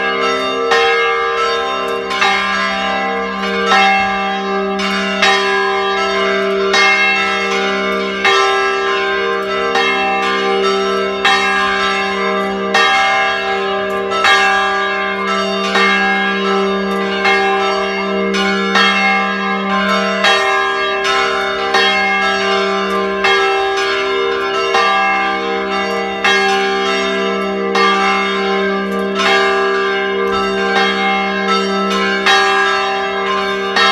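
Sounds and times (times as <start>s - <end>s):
church bells ringing: 0.0s - 33.9s.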